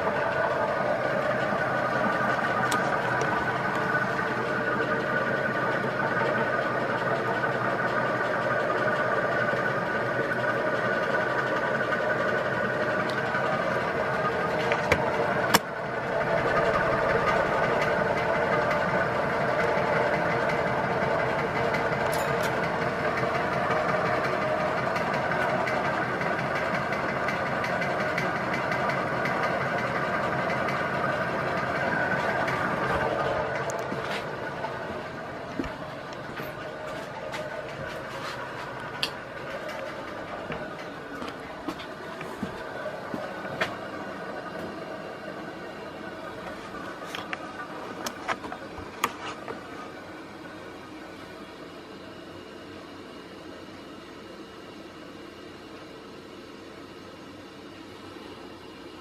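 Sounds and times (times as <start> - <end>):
ceiling fan motor humming: 0.0 - 59.0.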